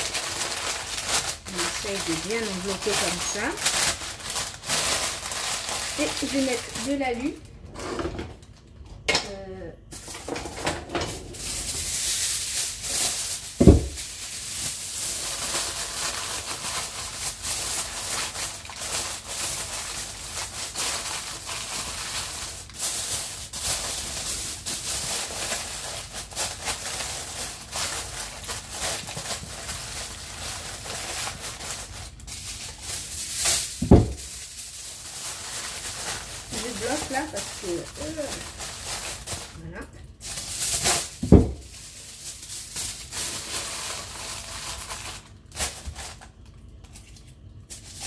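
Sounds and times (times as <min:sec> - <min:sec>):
aluminium foil crinkling: 0:00.0 - 0:07.5, 0:08.4 - 0:48.0.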